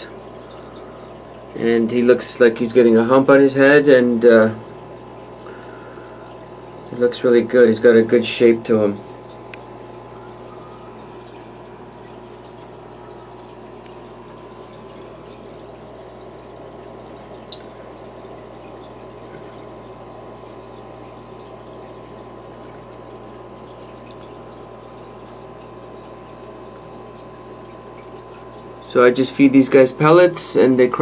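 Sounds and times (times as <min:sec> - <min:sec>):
low steady hum: 0:00.0 - 0:31.0
sponge filter water bubbling: 0:00.0 - 0:31.0.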